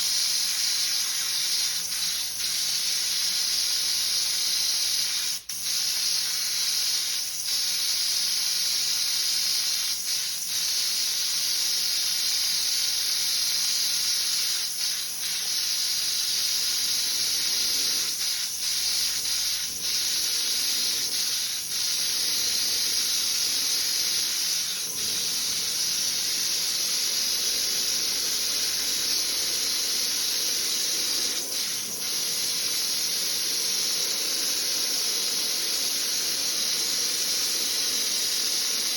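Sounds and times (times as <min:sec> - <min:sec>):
paint spray gun hissing: 0:00.0 - 0:38.9.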